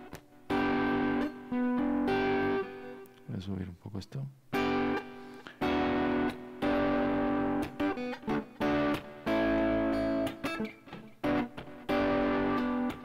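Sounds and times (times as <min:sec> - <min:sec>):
electric guitar chords: 0:00.0 - 0:03.3, 0:04.5 - 0:13.0.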